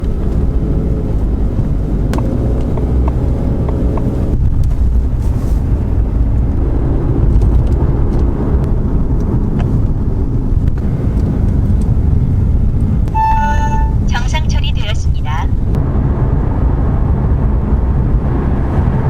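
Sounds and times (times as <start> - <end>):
car engine and road noise rumbling: 0.0 - 19.0.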